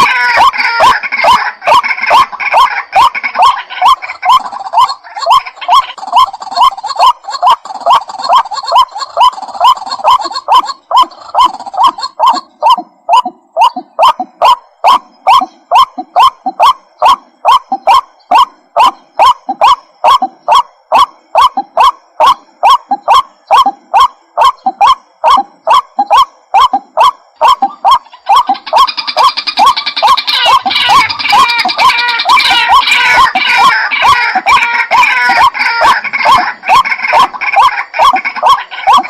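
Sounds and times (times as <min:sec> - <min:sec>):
waterhen calling: 0:00.0 - 0:39.0.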